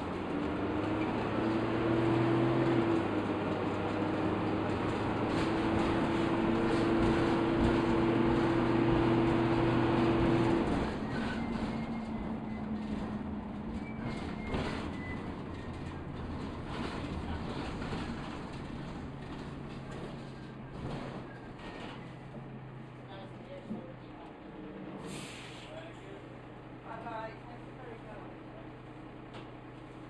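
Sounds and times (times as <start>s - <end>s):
bus engine droning whine: 0.0s - 30.0s.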